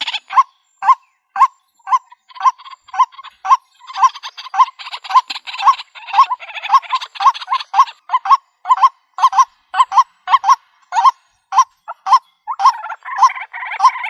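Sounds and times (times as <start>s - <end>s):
bird harsh croaking calls: 0.0s - 14.0s.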